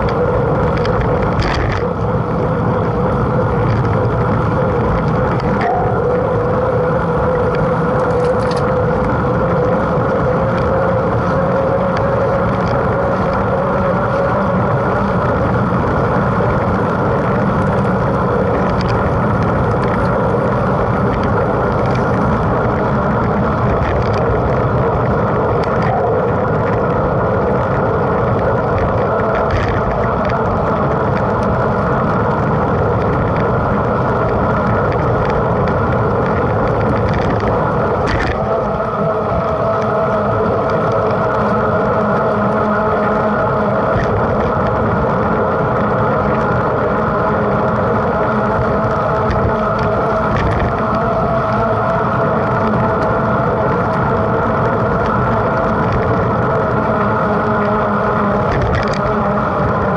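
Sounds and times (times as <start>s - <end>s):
bike clicks and rattles: 0.0s - 59.9s
wind and tyre noise: 0.0s - 59.9s.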